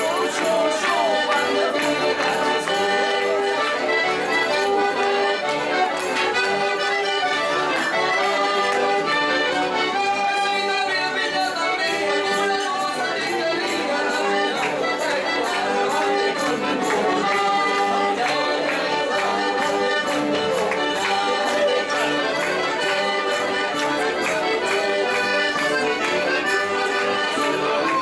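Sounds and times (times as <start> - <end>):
accordion playing folk tune: 0.0 - 28.0
second accordion: 0.0 - 28.0.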